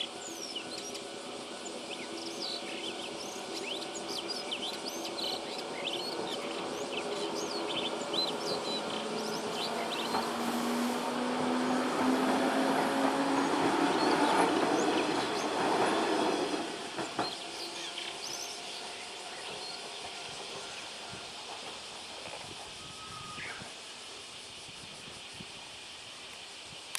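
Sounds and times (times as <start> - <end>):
train wheels rumbling and clacking: 0.0 - 23.1.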